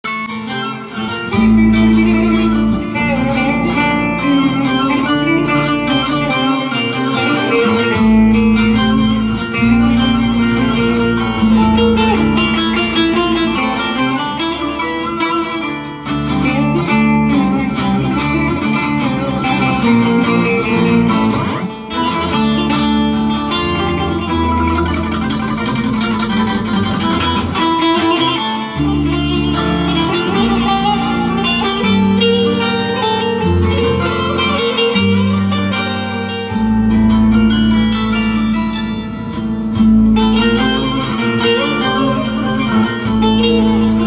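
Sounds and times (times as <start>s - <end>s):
plucked lute melody: 0.0s - 44.0s.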